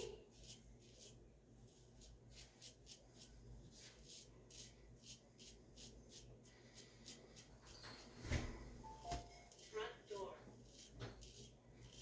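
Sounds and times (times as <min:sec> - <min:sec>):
razor scraping stubble: 0:00.0 - 0:12.0.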